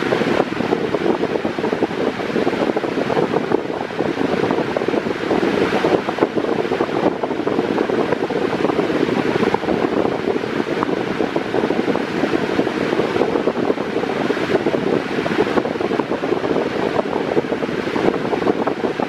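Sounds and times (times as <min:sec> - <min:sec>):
pedestal fan running: 0:00.0 - 0:19.0
wind buffeting microphone: 0:00.0 - 0:19.0.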